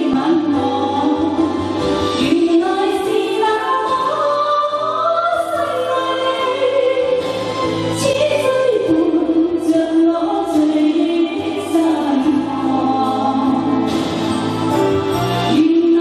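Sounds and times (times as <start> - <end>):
woman singing ballad: 0.0 - 14.6, 15.2 - 16.0
karaoke backing track: 0.0 - 16.0.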